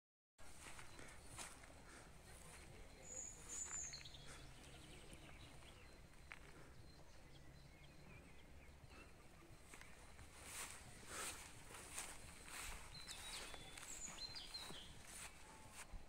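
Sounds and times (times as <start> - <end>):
footsteps on grass and dirt: 0.4 - 7.2, 7.8 - 16.0
faint birds chirping: 0.4 - 16.0.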